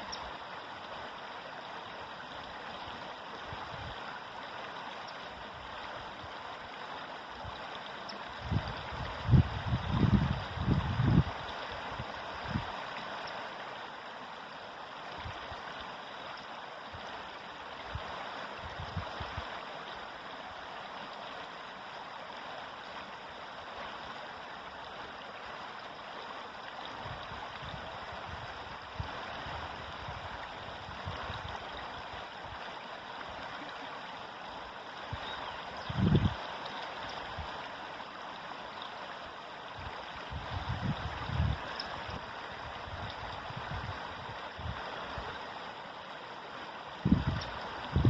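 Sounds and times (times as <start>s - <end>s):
river flowing: 0.0s - 48.0s.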